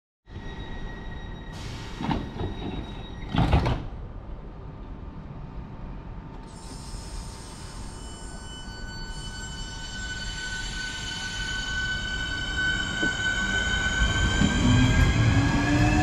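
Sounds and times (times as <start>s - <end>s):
electric train rumbling: 0.3s - 16.0s.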